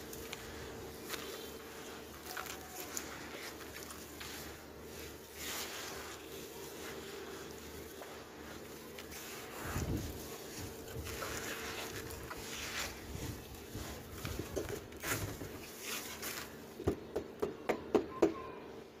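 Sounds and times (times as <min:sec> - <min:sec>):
hands raking through dry dirt: 0:00.0 - 0:16.8.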